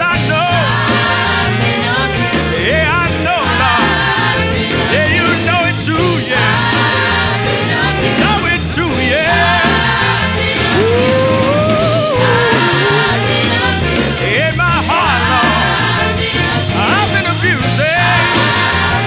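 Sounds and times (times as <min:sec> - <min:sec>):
live rock band playing: 0:00.0 - 0:19.0
pulsing bass line: 0:00.0 - 0:19.0.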